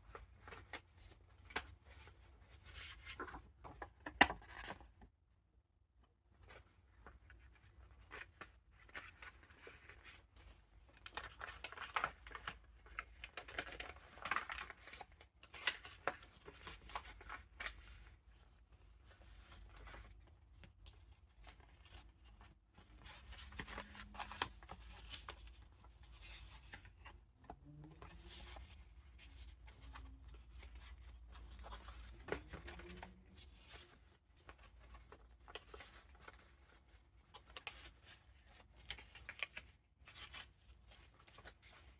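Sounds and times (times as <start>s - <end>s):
paper rustling and crinkling: 0.0s - 4.9s, 6.3s - 41.9s.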